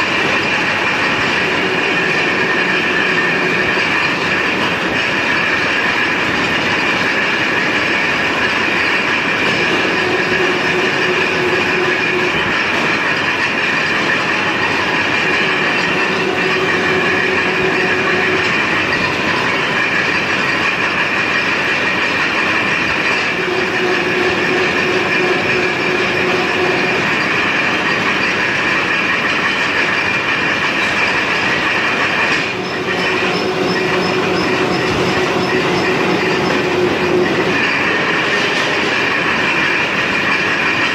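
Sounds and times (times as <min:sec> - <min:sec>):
low machine hum: 0:00.0 - 0:40.9
mill machinery metallic din: 0:00.0 - 0:40.9.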